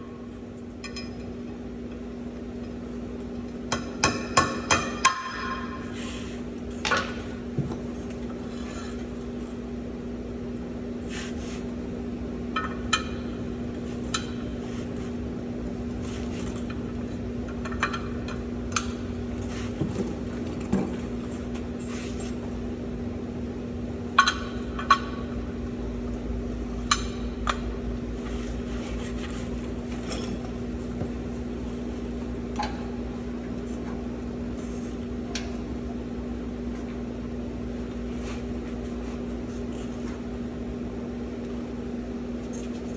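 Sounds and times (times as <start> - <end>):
steady mechanical hum: 0.0 - 42.9.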